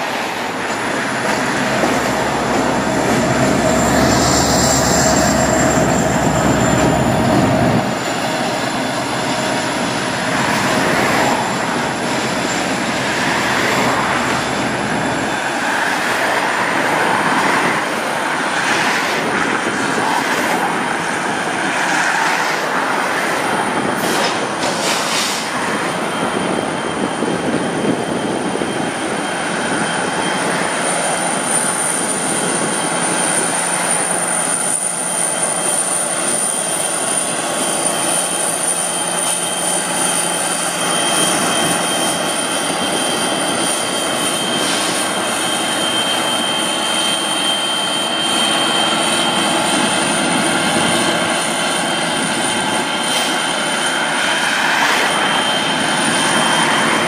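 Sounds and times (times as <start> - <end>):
rumble of wheels on rail: 0.0 - 57.0
steel wheels squealing: 0.5 - 18.6, 20.7 - 57.0.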